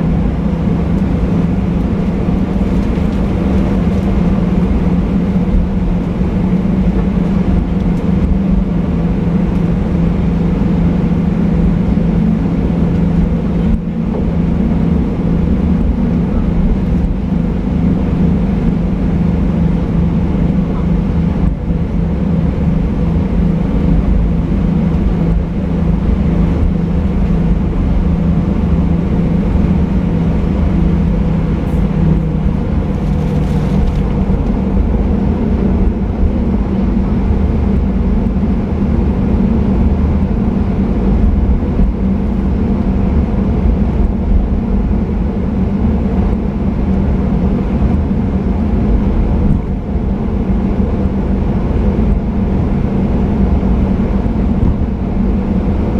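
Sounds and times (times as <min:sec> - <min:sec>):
jet engines in airliner cabin: 0:00.0 - 0:55.9.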